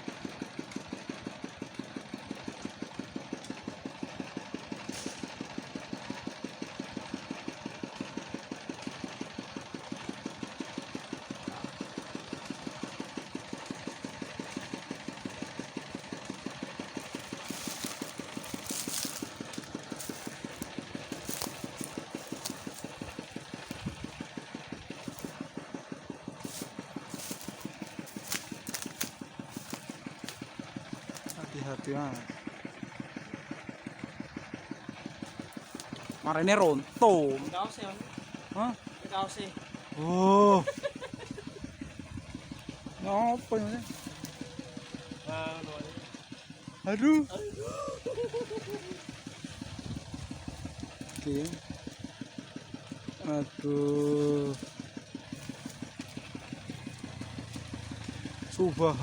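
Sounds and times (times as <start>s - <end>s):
small engine pulsing: 0.0s - 59.0s.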